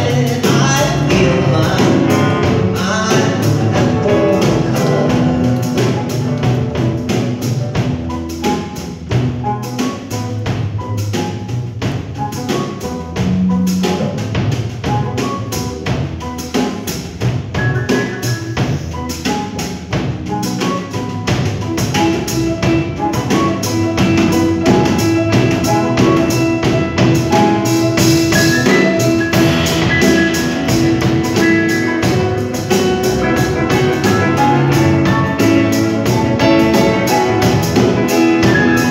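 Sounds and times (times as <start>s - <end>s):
drum kit steady beat: 0.0s - 38.9s
grand piano: 0.0s - 38.9s
keyboards: 0.0s - 38.9s
plucked upright bass: 0.0s - 38.9s.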